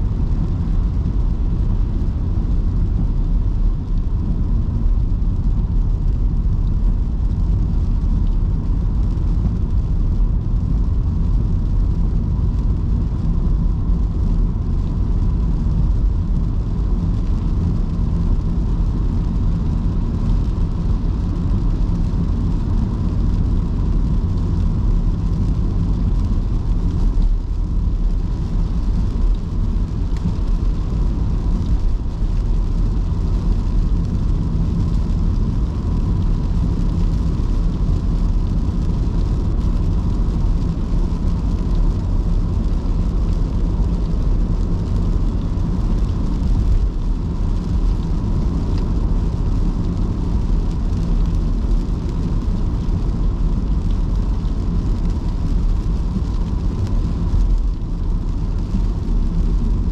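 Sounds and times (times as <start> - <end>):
faint steady whine: 0.0 - 59.9
rain hiss: 0.0 - 59.9
tyres rumbling on wet road: 0.0 - 59.9.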